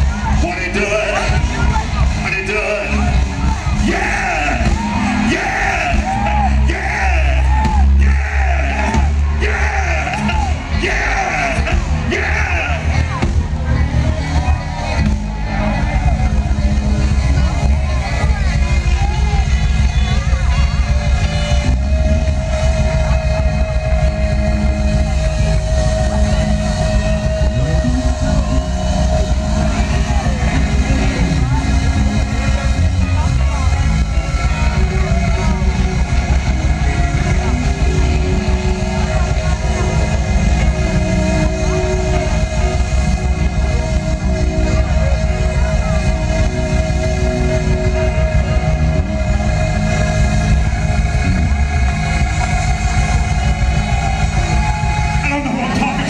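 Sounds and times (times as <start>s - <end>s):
heavy bass: 0.0s - 56.0s
live band playing: 0.0s - 56.0s.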